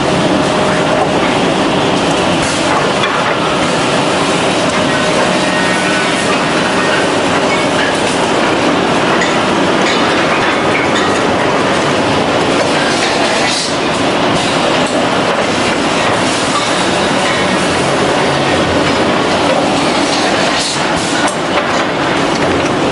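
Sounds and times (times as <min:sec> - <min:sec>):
woodworking machinery running: 0:00.0 - 0:22.9.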